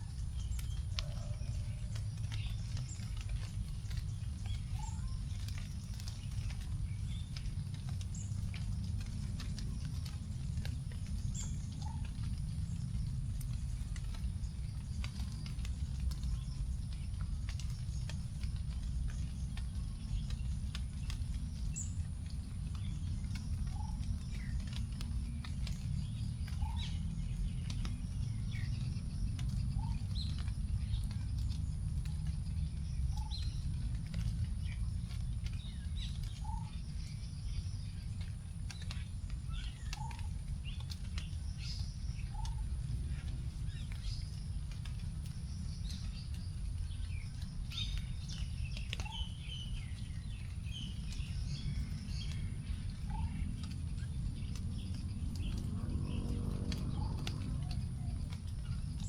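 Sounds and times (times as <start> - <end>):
raindrops dripping onto leaves: 0.0 - 59.0
small birds chirping: 0.0 - 59.0
steady low rumble: 0.0 - 59.0.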